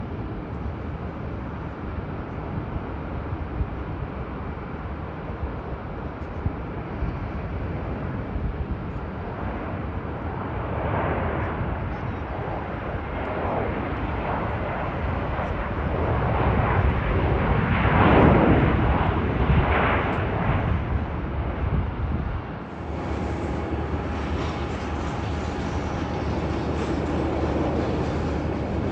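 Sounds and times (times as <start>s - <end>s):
jet airliner engines rumbling: 0.0s - 28.9s.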